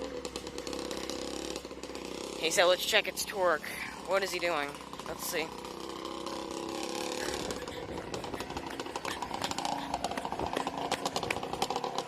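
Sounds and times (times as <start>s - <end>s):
two-stroke engine revving: 0.0s - 12.0s.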